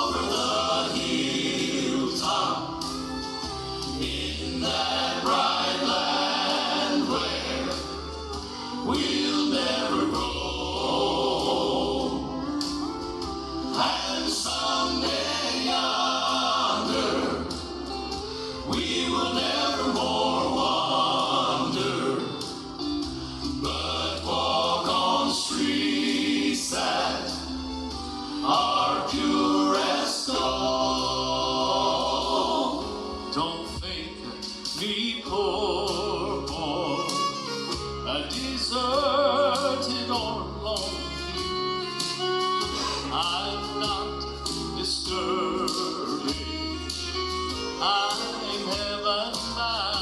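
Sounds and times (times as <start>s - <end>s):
gospel song with instruments: 0.0s - 50.0s.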